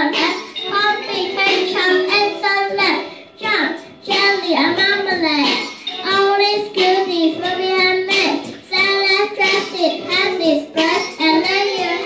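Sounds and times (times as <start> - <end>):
boy singing into a microphone: 0.0 - 12.0.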